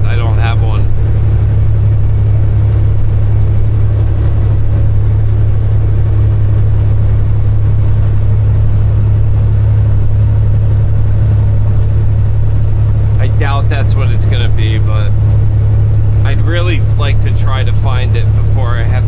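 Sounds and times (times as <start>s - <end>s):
truck cab drone: 0.0s - 19.0s.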